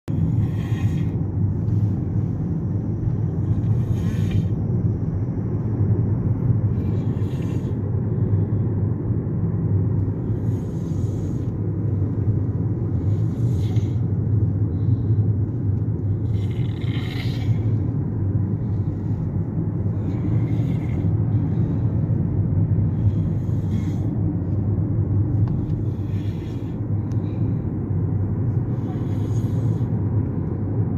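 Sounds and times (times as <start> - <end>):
car driving drone from inside: 0.1 - 30.9.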